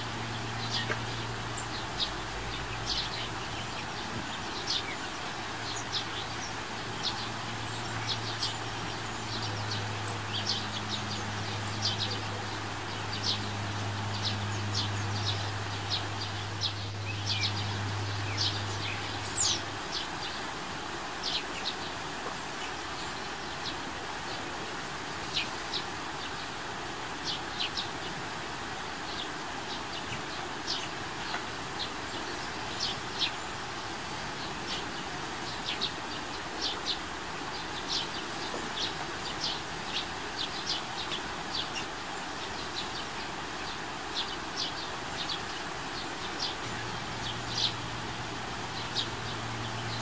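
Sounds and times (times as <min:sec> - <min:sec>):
river water rushing: 0:00.0 - 0:50.0.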